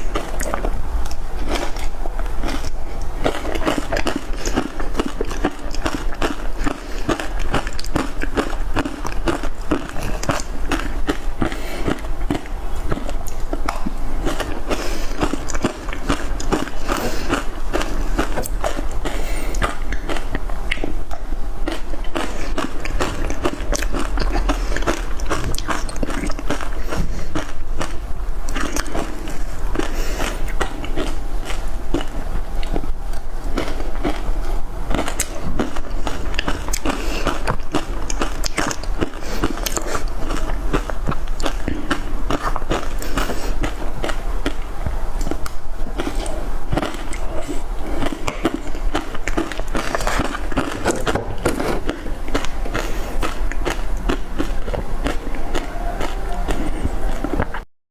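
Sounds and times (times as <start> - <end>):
steady low hum: 0.0 - 57.7.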